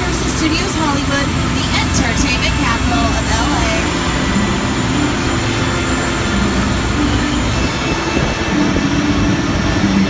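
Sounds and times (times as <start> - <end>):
tram engine and rolling wheels: 0.0 - 10.0.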